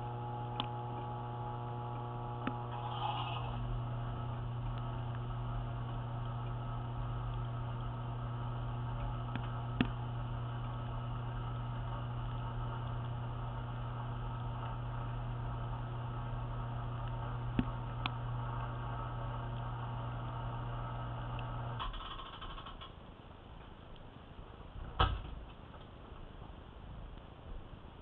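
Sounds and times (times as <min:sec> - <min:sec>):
dishwasher humming: 0:00.0 - 0:22.8.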